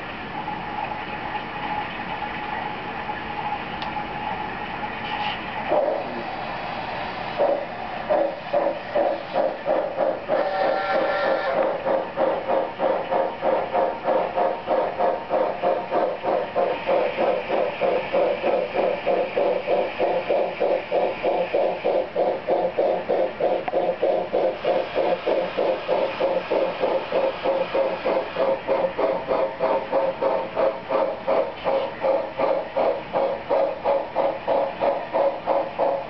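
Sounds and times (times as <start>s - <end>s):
model steam locomotive chuffing: 5.6s - 36.0s.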